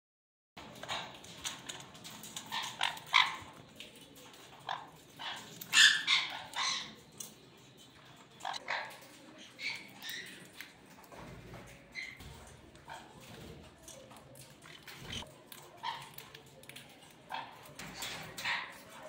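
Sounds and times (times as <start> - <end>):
parrots squawking: 0.7 - 3.6, 4.2 - 7.4, 8.1 - 10.7, 11.6 - 19.0.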